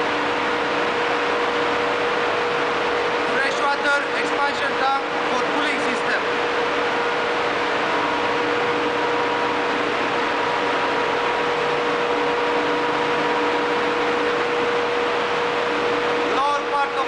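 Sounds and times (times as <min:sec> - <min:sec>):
engine room machinery roar: 0:00.0 - 0:17.0.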